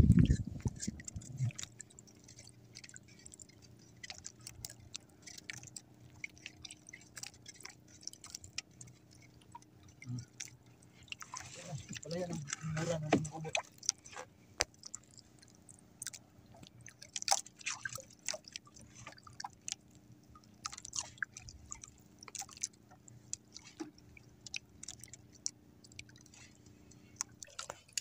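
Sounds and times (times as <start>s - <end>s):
water lapping at boat: 0.0s - 28.0s.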